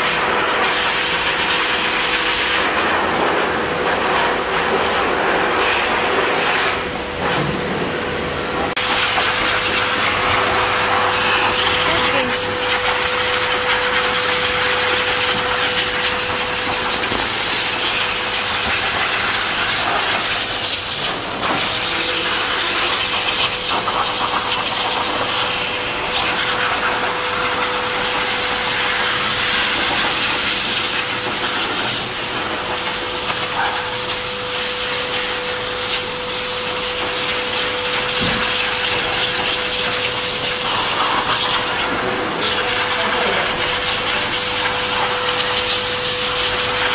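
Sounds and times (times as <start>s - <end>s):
pet dryer blowing air: 0.0s - 46.9s.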